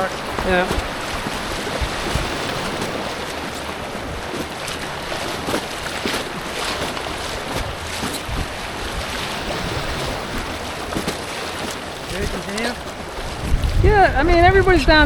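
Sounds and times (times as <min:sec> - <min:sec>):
short splashes: 0:00.0 - 0:14.3
creek water rushing: 0:00.0 - 0:15.0.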